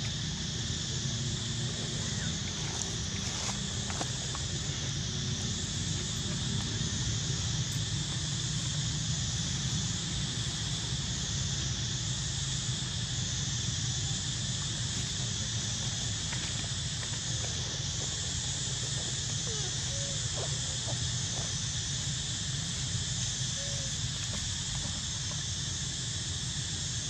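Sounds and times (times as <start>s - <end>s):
constant low rumble: 0.0s - 27.0s
high outdoor hiss: 0.0s - 27.0s.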